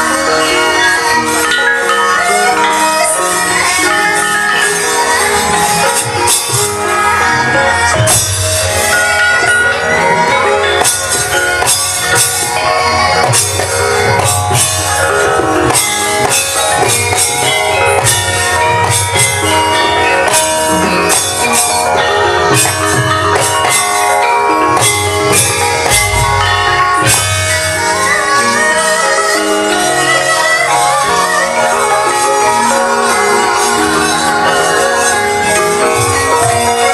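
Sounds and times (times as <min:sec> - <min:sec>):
gamelan music: 0:00.0 - 0:36.9.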